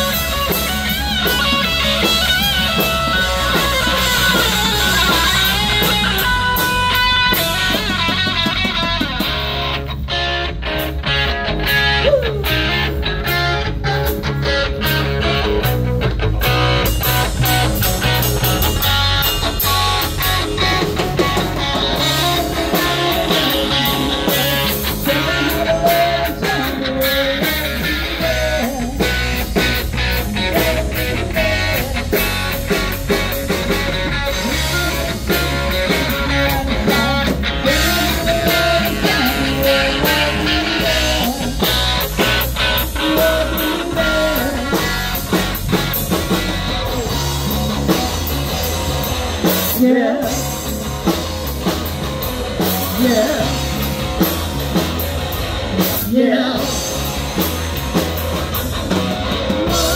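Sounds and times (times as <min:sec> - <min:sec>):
bass guitar: 0:00.0 - 0:59.9
drum kit: 0:00.0 - 0:59.9
electric guitar melody: 0:00.0 - 0:59.9.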